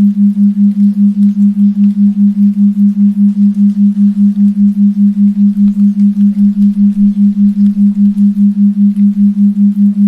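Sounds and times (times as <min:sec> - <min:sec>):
low pulsing tone: 0:00.0 - 0:10.0.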